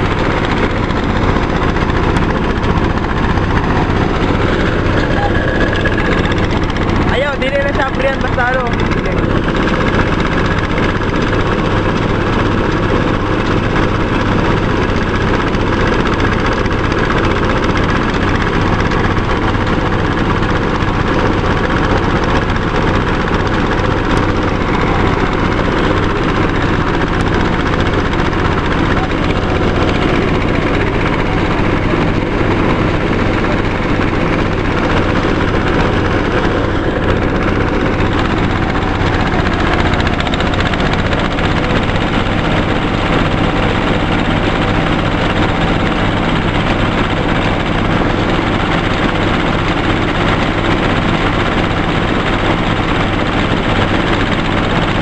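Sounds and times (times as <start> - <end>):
diesel engine running steadily: 0.0 - 55.0.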